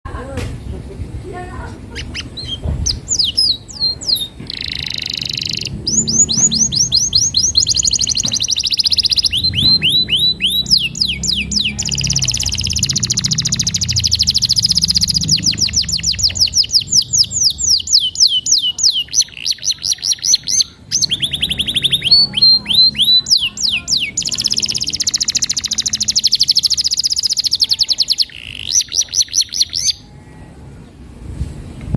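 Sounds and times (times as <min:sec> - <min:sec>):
canary singing trills: 0:01.9 - 0:30.9.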